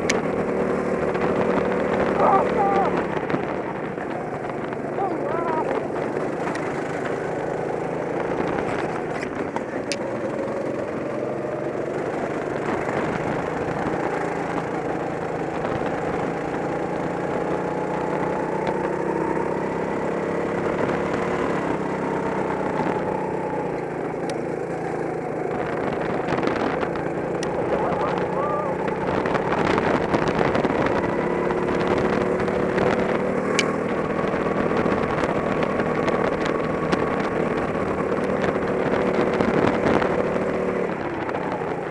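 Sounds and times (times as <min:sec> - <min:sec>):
go-kart engine running hard: 0:00.0 - 0:41.9.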